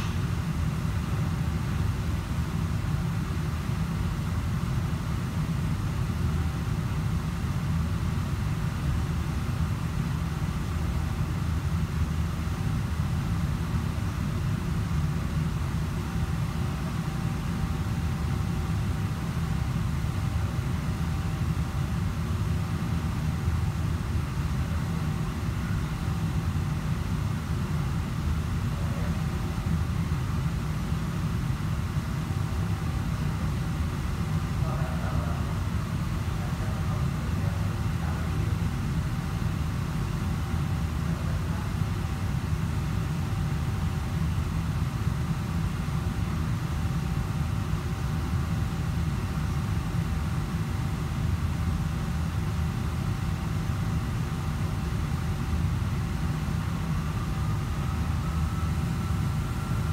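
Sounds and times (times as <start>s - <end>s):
ventilation machinery rumble: 0.0s - 59.9s.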